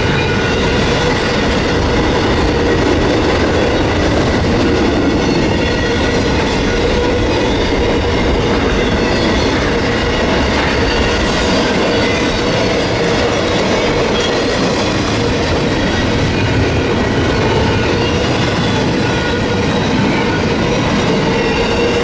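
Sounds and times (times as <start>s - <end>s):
freight train wheels rumbling: 0.0s - 22.0s
train wheels squealing: 0.0s - 22.0s.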